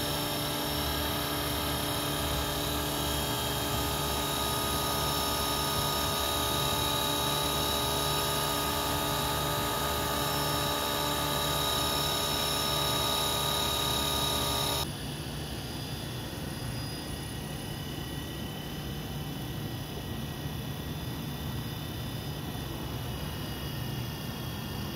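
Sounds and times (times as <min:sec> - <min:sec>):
model helicopter whine: 0:00.0 - 0:24.9.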